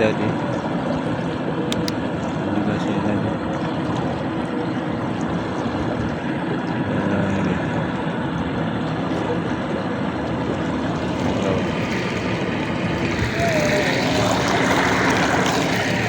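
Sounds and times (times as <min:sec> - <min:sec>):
small engine droning: 0:00.0 - 0:16.0.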